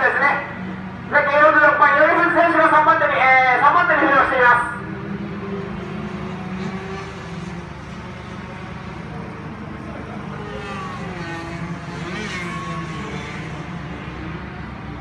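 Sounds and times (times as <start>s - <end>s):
race engines droning: 0.0s - 15.0s.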